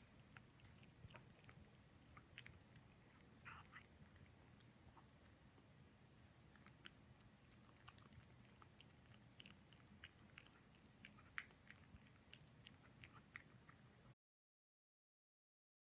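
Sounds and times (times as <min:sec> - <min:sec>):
cat licking and chewing food: 0:00.0 - 0:14.2.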